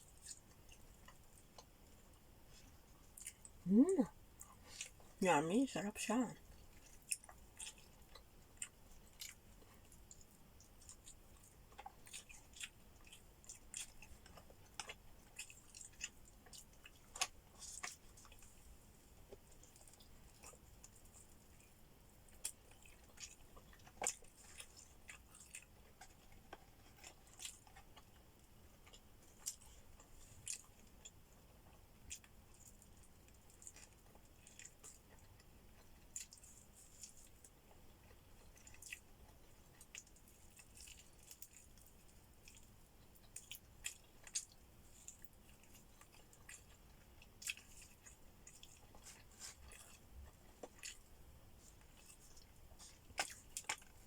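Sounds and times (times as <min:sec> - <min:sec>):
person chewing with mouth clicks: 0:00.0 - 0:05.2, 0:06.1 - 0:54.0.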